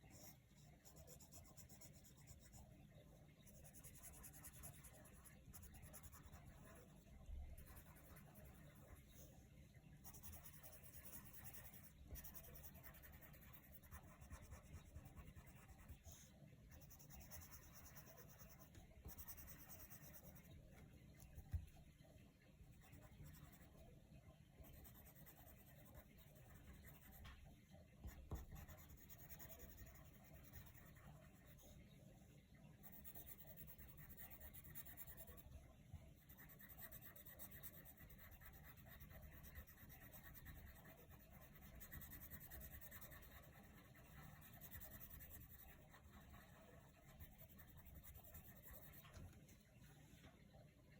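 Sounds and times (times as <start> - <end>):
pencil scratching on paper: 0.0 - 9.4, 10.0 - 21.8, 22.7 - 23.9, 24.6 - 27.3, 28.0 - 31.8, 32.8 - 49.3.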